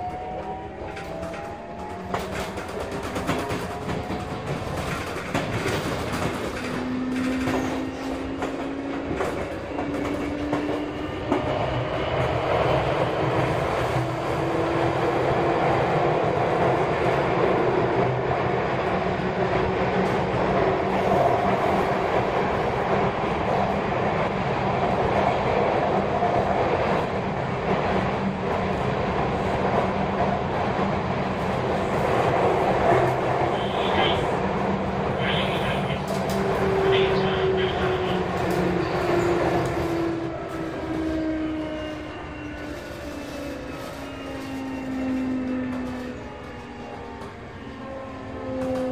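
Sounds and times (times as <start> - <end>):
train wheels on rails: 0.0 - 48.9.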